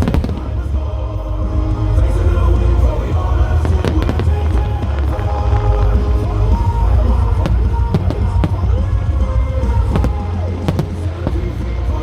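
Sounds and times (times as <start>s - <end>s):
sharp firework bangs: 0.0s - 0.9s, 3.2s - 12.0s
fireworks rumbling: 0.0s - 12.0s.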